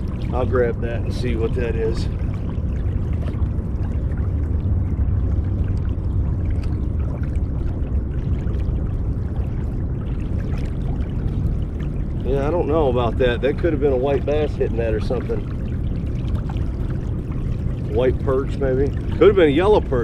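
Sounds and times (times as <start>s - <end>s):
water rushing along kayak hull: 0.0s - 20.0s.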